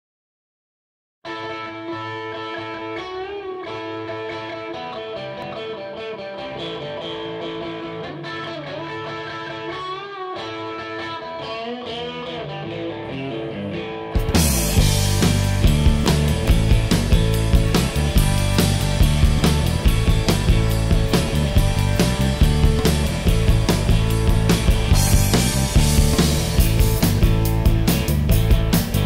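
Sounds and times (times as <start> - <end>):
electric guitar solo: 1.2 - 29.0
rock band playing: 1.3 - 29.0.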